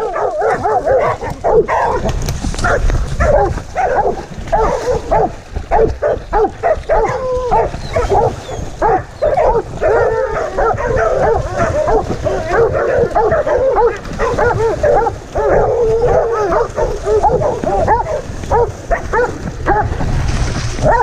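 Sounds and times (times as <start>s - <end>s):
dogs barking and baying: 0.0s - 21.0s
water splashing: 0.0s - 21.0s
low rumble of movement: 0.1s - 21.0s.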